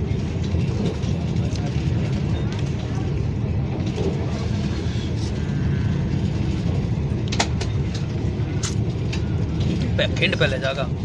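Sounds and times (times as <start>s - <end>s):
electric train rumbling at speed: 0.0s - 11.0s.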